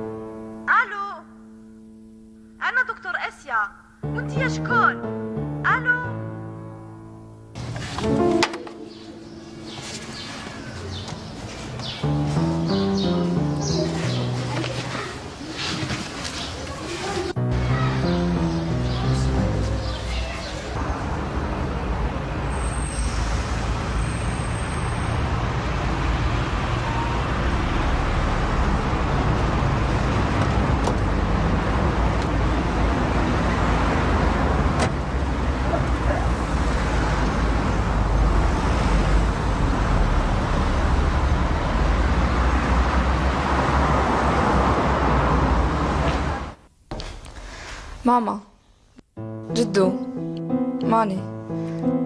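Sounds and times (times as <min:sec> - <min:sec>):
street traffic: 0:07.0 - 0:48.4, 0:50.9 - 0:52.0.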